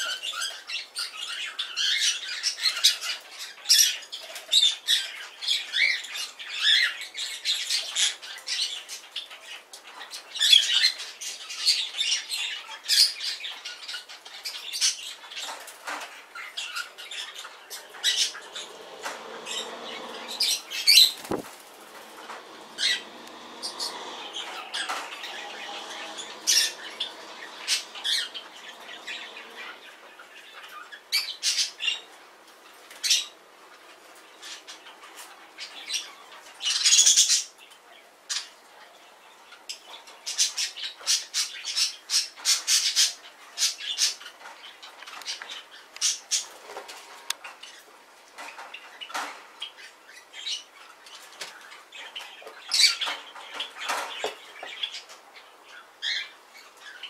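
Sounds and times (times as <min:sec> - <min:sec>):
parrots chirping and squawking: 0:00.0 - 0:37.7, 0:39.3 - 0:57.0.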